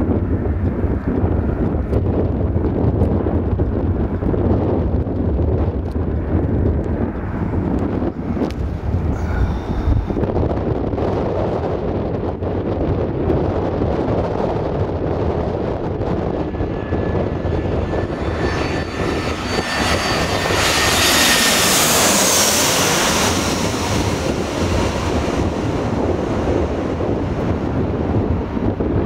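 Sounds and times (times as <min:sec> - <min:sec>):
jet airliner passing overhead: 0:00.0 - 0:29.0
wind buffeting microphone: 0:00.0 - 0:29.0.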